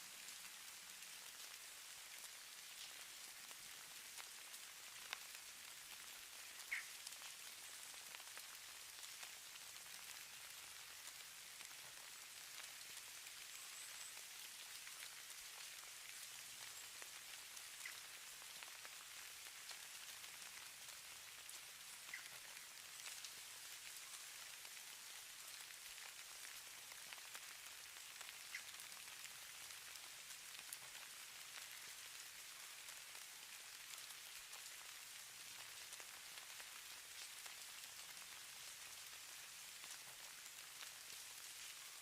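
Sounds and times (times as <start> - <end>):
snow pattering faintly: 0.1 - 42.0.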